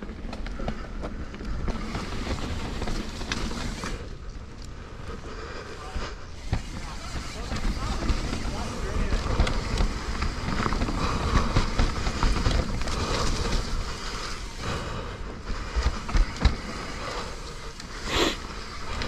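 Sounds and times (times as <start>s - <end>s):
tyres rolling over dirt: 0.0s - 4.7s, 5.3s - 19.0s
bike rattling over bumps: 0.0s - 19.0s.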